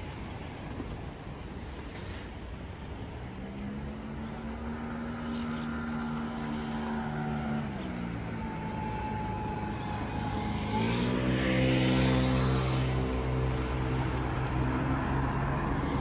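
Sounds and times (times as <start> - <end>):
engine running: 1.6 - 16.0.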